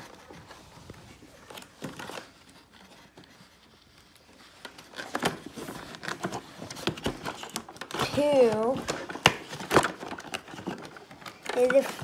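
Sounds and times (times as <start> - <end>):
cardboard scraping and rustling: 0.0 - 12.0.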